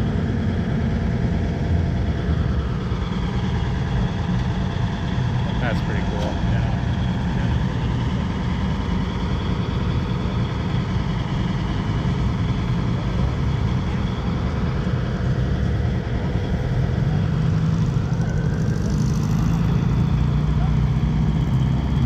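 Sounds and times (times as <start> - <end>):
cars driving slowly past: 0.0 - 22.0.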